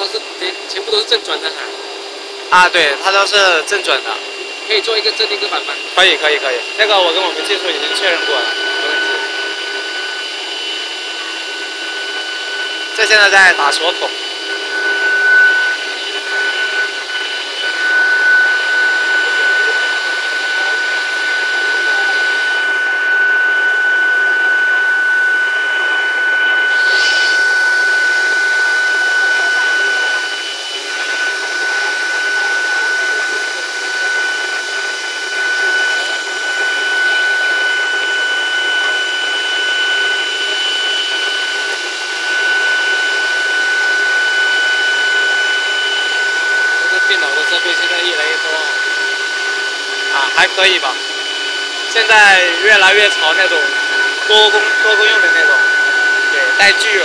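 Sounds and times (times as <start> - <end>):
router spindle cutting wood: 0.0 - 57.0.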